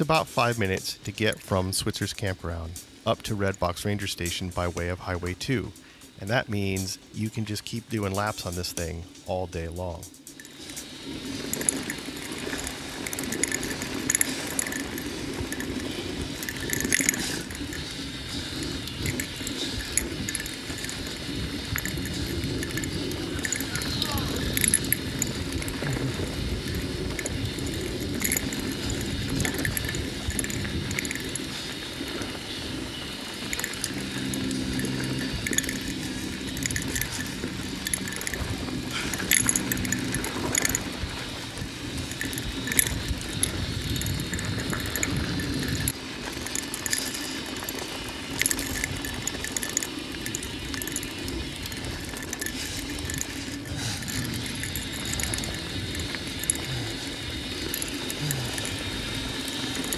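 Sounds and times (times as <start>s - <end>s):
bike rattles and clicks: 0.0s - 59.9s
low steady hum: 0.0s - 59.9s
bike tyres crunching over dirt: 9.0s - 59.9s.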